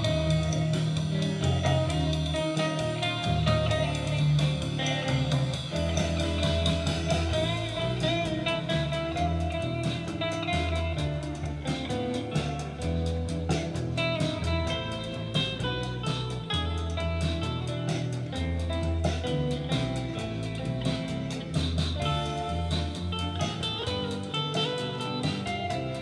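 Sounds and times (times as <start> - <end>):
guitar-led background music: 0.0 - 26.0.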